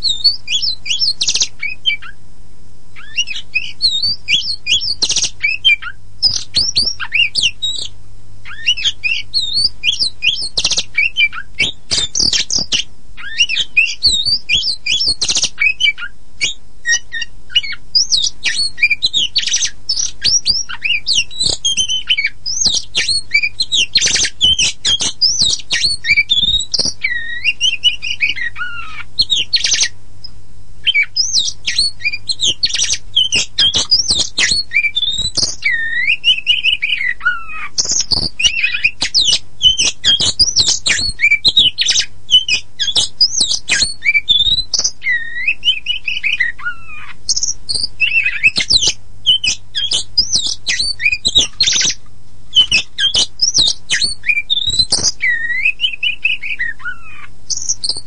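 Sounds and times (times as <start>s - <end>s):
bird singing varied song: 0.0s - 2.2s, 3.0s - 58.0s
faint low hum: 0.0s - 58.0s.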